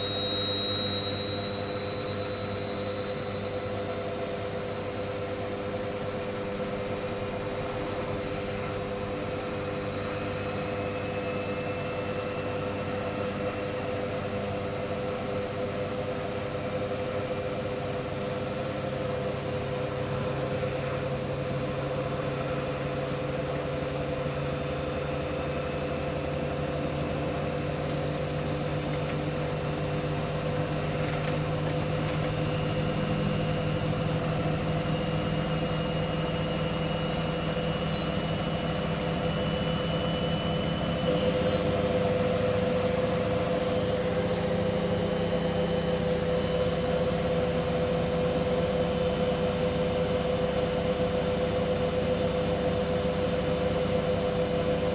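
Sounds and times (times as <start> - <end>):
washing machine motor whining: 0.0 - 54.9.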